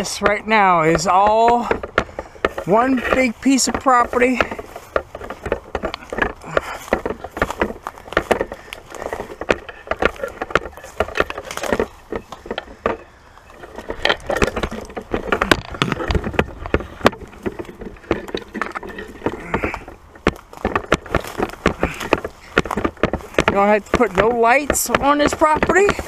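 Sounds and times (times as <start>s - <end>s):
footsteps crunching through dry brush: 0.0s - 26.0s.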